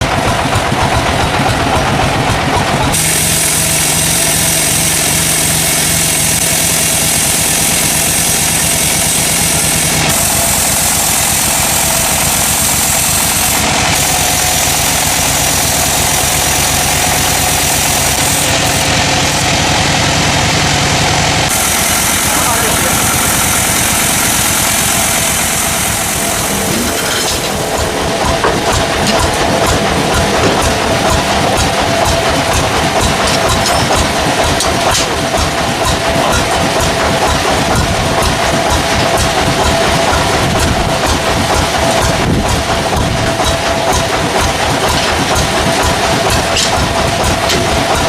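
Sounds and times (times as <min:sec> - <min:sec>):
sawmill machinery running: 0:00.0 - 0:48.0.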